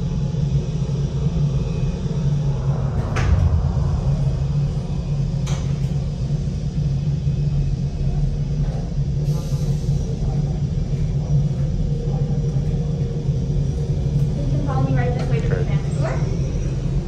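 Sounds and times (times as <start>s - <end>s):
low engine rumble and hum: 0.0s - 17.0s.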